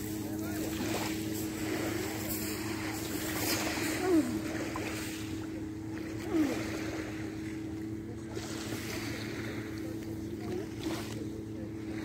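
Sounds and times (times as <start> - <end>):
low droning hum: 0.0 - 12.0
waves lapping on pebbles: 0.0 - 12.0.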